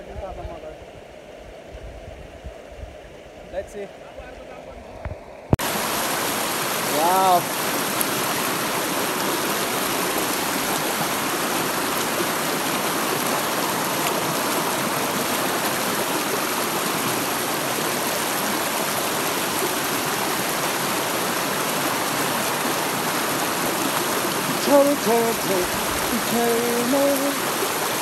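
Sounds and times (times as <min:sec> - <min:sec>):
rushing water roaring: 0:02.4 - 0:28.0.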